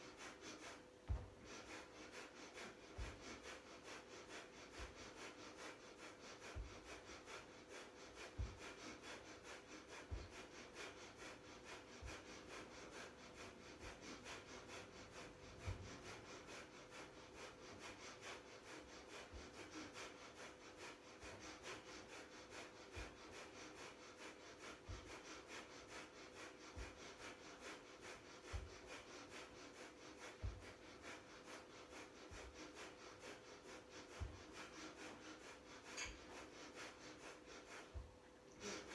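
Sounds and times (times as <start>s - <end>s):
fast rhythmic nose breathing: 0.0s - 38.9s.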